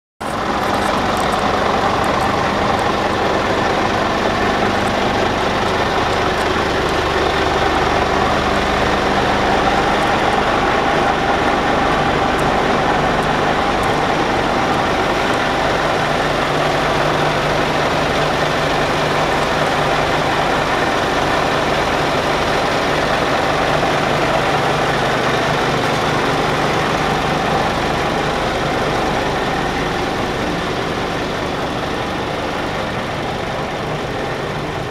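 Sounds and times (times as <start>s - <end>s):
diesel truck engine running: 0.2s - 34.9s.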